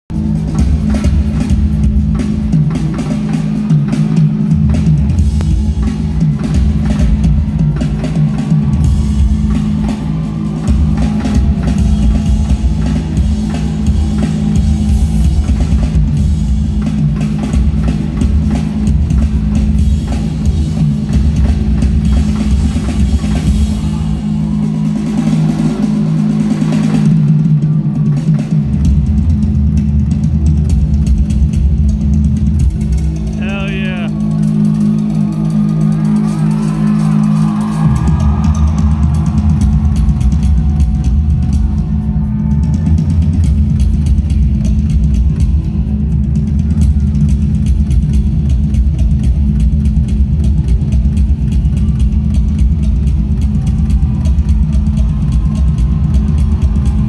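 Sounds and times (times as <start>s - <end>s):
live rock drum solo: 0.1s - 57.0s.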